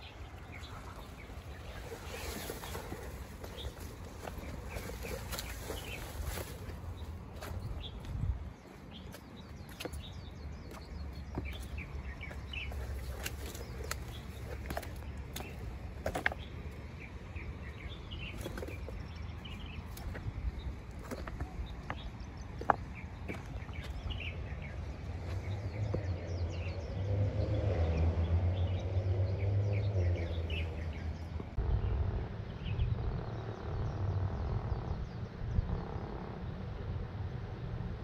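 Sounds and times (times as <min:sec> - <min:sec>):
steady low rumble: 0:00.0 - 0:27.0, 0:30.3 - 0:38.0
birds chirping: 0:00.0 - 0:38.0.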